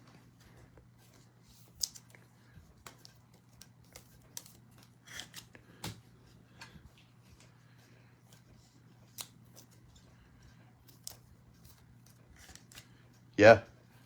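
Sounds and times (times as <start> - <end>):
faint steady hum: 0.0 - 14.0
cards and packaging rustling: 0.2 - 13.3.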